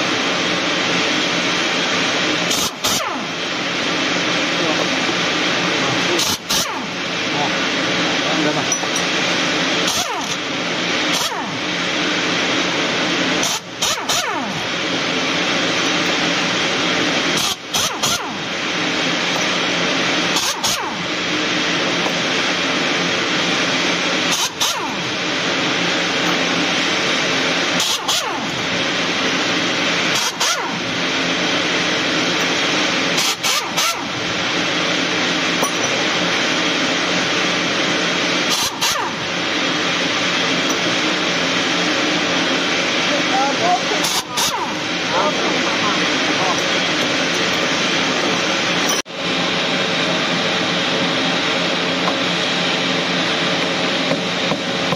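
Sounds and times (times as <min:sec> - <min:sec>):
pneumatic impact wrench: 0:00.0 - 0:49.2
loud mechanical drone: 0:00.0 - 0:54.9.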